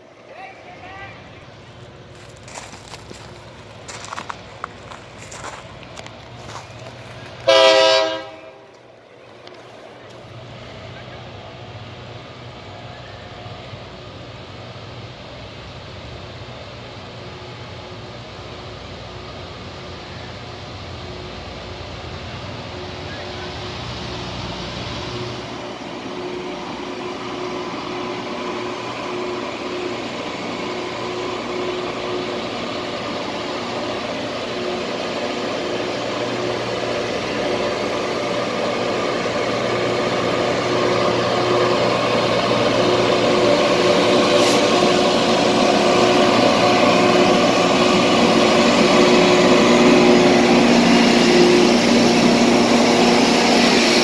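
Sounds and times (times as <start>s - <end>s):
train diesel engines humming: 0.0s - 54.0s.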